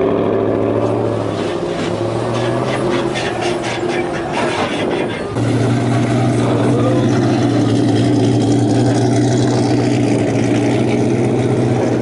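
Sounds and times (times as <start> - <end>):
pickup truck engine revving hard: 0.0 - 12.0.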